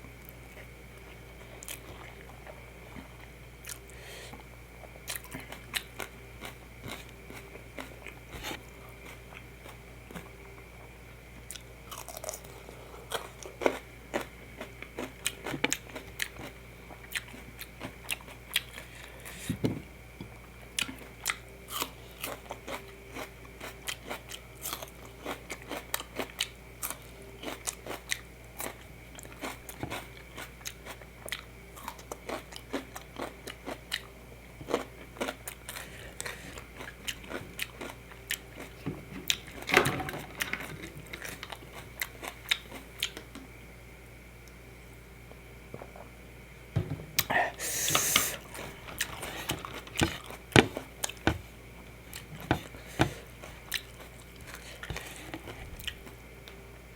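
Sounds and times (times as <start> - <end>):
faint steady hum: 0.0 - 56.9
person chewing crunchy food: 0.1 - 19.5, 20.2 - 39.7, 40.4 - 43.4, 47.2 - 56.2.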